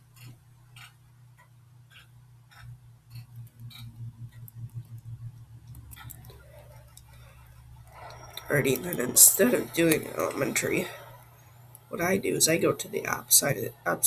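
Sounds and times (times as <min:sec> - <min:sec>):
mechanical ticking: 0:00.0 - 0:13.6
low pulsing hum: 0:02.3 - 0:14.0.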